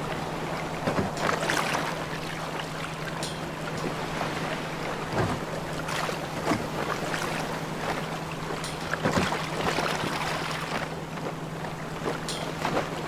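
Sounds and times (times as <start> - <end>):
water splashing against hull: 0.0 - 13.0.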